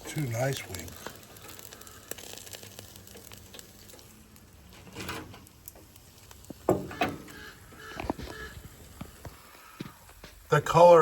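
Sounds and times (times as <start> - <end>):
oil frying crackle: 0.0 - 11.0.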